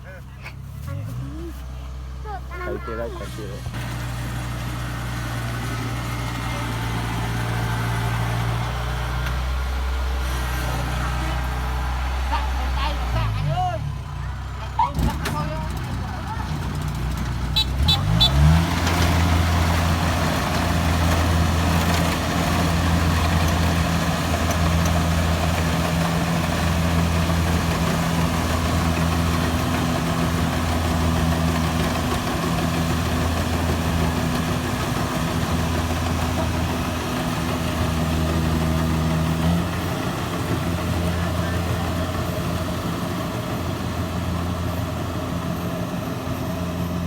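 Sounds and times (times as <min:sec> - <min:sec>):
engine running steadily: 0:00.0 - 0:47.0.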